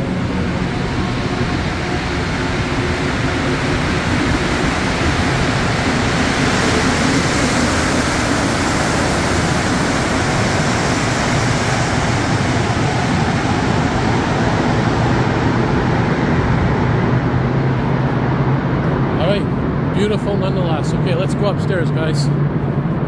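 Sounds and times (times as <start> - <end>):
low hum: 0.0 - 23.0
metro train rushing: 0.0 - 23.0.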